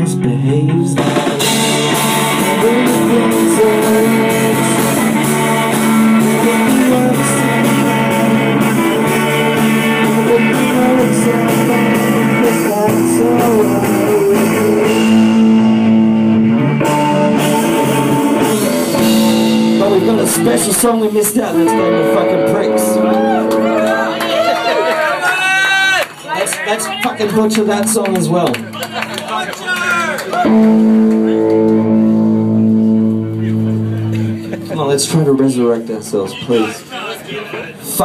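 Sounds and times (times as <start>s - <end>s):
distorted electric guitar: 0.0s - 24.9s, 30.2s - 35.9s
loud live rock band: 0.0s - 26.3s, 27.1s - 36.9s.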